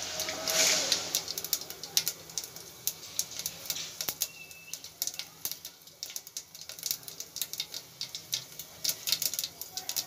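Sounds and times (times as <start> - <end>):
seeds popping in hot oil: 0.0 - 10.0.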